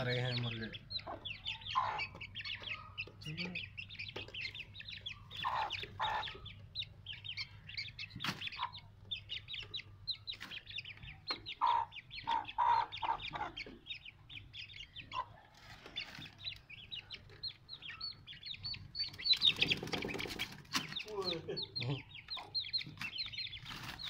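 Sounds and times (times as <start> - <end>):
chicks peeping: 0.0 - 24.0
hen clucking: 0.0 - 24.0.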